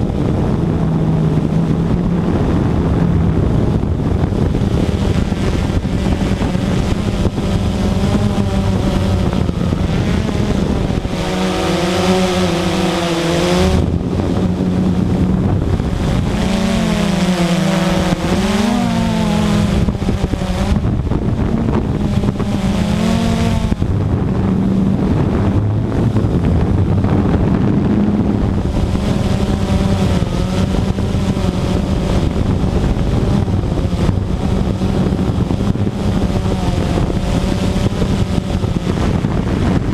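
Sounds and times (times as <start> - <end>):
model aircraft motor drone: 0.0 - 39.9
wind noise on microphone: 0.0 - 39.9.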